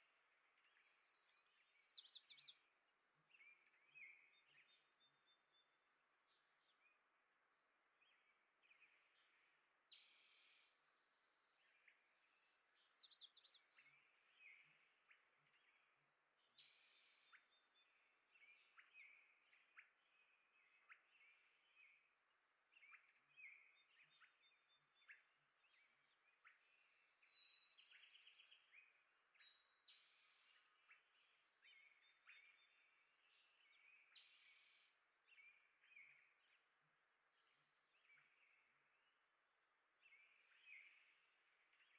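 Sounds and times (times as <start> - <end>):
faint birds chirping: 0.0 - 41.9.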